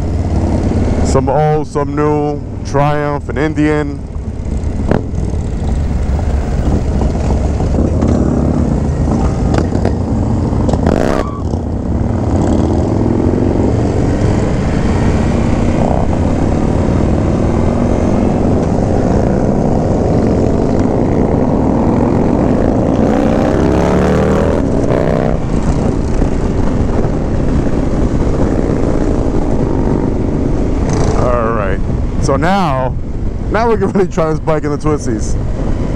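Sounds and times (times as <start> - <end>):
motorcycle engine running: 2.4 - 32.1.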